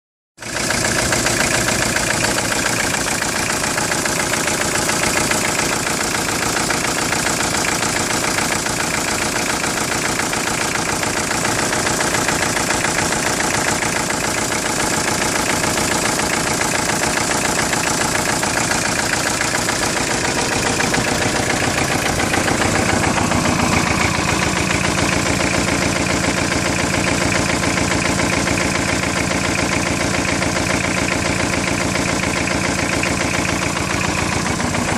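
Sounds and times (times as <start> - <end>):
engine idling with rhythmic knock: 0.4 - 34.9.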